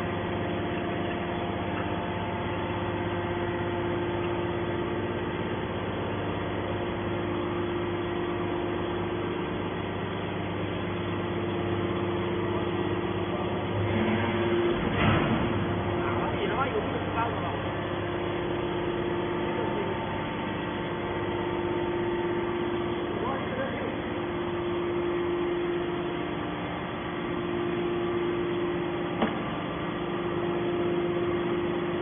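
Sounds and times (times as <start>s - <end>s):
baler machine hum: 0.0s - 32.0s.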